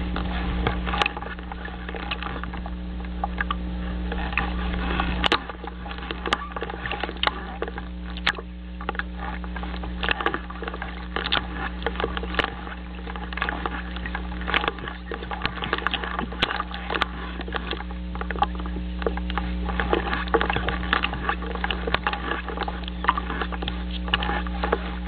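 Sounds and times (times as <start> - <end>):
low electrical hum: 0.0 - 25.0
sharp clicks and crackles: 0.0 - 25.0.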